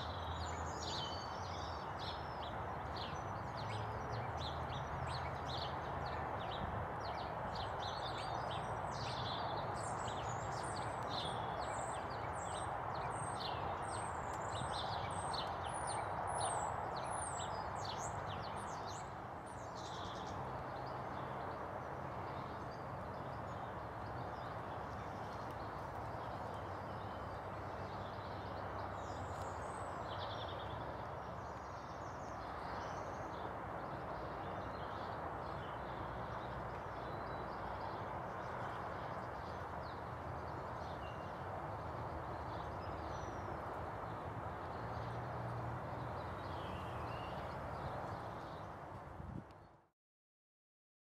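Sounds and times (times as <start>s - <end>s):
rushing outdoor background noise: 0.0s - 49.9s.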